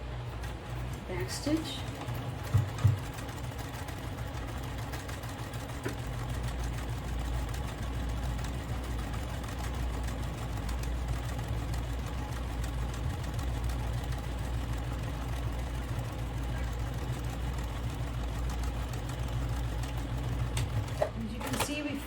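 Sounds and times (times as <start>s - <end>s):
sewing machine running: 0.0s - 22.0s.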